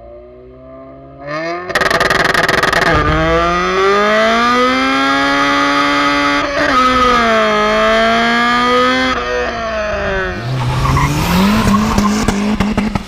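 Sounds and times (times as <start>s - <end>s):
car engine and exhaust pulling hard: 0.0s - 13.0s.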